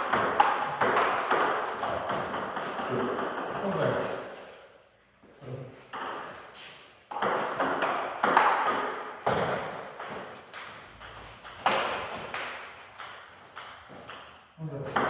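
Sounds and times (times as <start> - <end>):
table tennis ball hits: 0.0 - 4.0, 5.9 - 6.4, 7.1 - 15.0.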